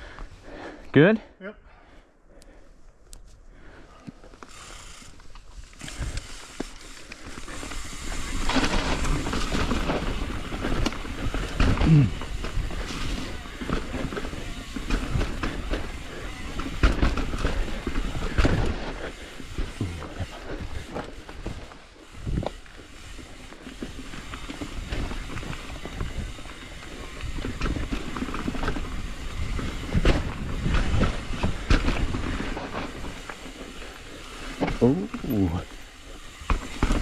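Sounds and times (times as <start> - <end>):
mountain bike tyre roar: 3.6 - 37.0
bike knocking and clattering: 5.6 - 37.0.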